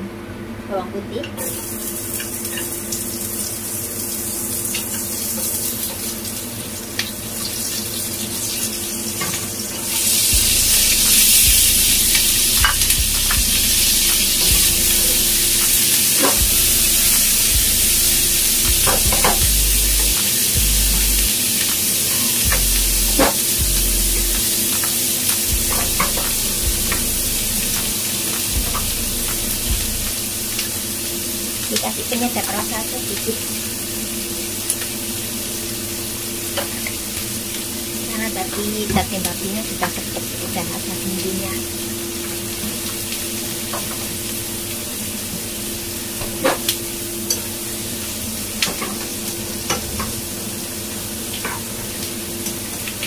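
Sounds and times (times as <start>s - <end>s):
garlic sizzling in hot oil: 1.3s - 53.0s.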